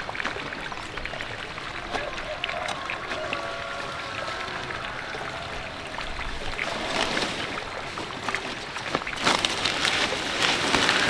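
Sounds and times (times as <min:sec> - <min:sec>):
leaves rustling: 0:00.0 - 0:11.0
stems snapping: 0:01.8 - 0:11.0.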